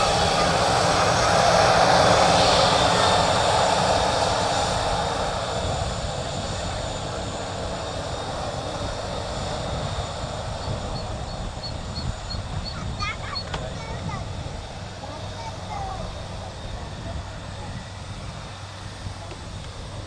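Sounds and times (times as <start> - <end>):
jet engines at taxi power: 0.0 - 20.0.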